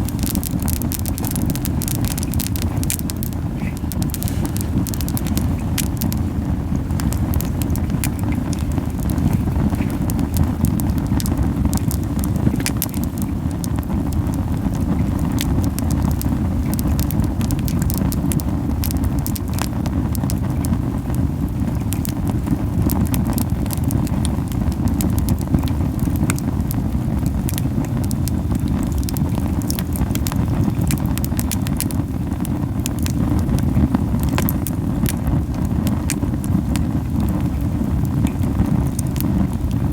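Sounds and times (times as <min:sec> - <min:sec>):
campfire crackling and popping: 0:00.0 - 0:39.9
low fluttering flame rumble: 0:00.0 - 0:39.9.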